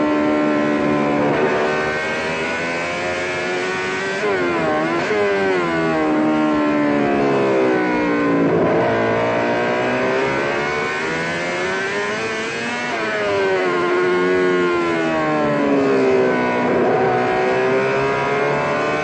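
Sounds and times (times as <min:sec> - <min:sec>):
racing motorcycle engine revving: 0:00.0 - 0:19.0.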